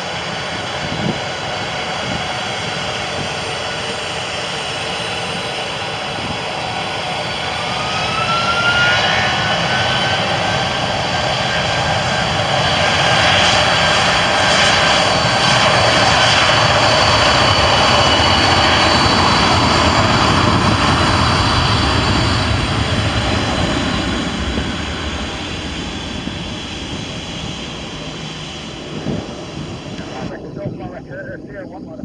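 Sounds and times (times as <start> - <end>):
high engine whine: 0.0 - 32.0
jet engines roaring: 0.0 - 32.0.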